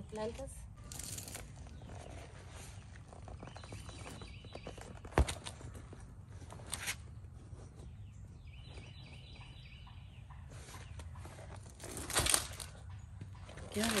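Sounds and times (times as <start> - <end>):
rustling of plants: 0.0 - 9.8, 10.5 - 14.0.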